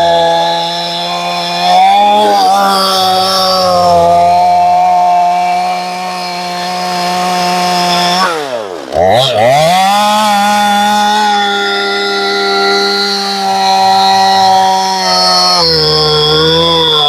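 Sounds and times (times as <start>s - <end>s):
chainsaw cutting through log: 0.0s - 17.0s.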